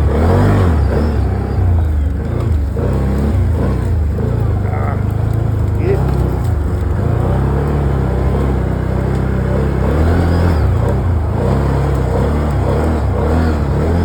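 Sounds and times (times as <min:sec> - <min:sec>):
vehicle engine revving in snow: 0:00.0 - 0:14.0.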